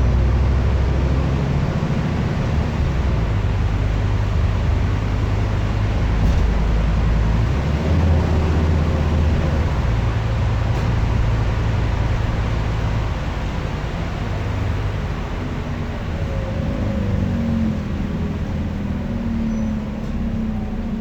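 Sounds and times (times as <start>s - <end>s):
bus engine running: 0.0s - 21.0s
road noise: 0.0s - 21.0s.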